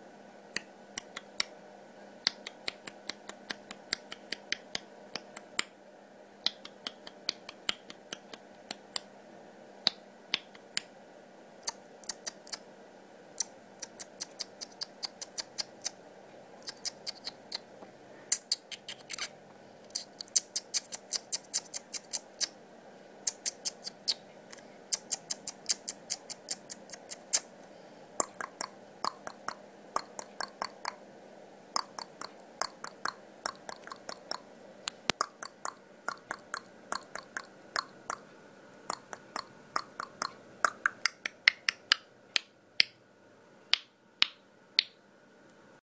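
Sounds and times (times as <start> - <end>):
faint steady hum: 0.0 - 45.8.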